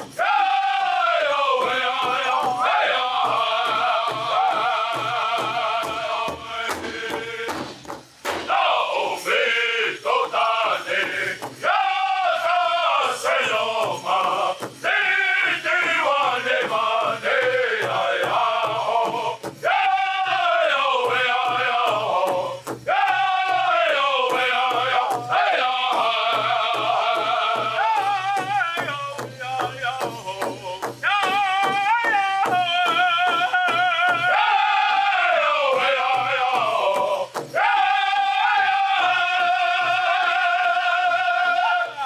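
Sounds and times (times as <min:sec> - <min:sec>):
large drum beat: 0:00.0 - 0:42.0
men chanting in unison: 0:00.0 - 0:42.0.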